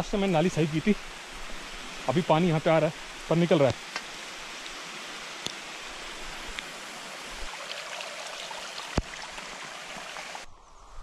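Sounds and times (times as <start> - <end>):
heavy rain: 0.0 - 10.5
rainwater running in channel: 0.0 - 10.5.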